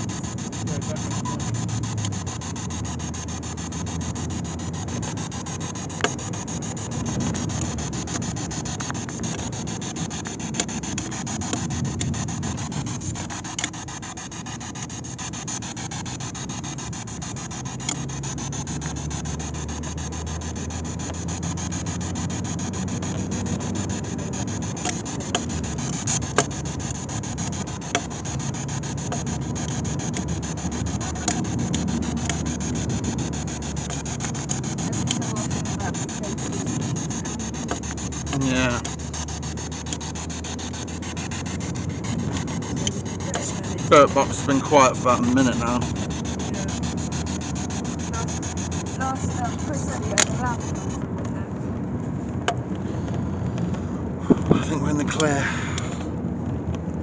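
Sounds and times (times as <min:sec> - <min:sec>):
steady hiss: 0:00.0 - 0:51.1
low rumble inside moving car: 0:00.0 - 0:57.0.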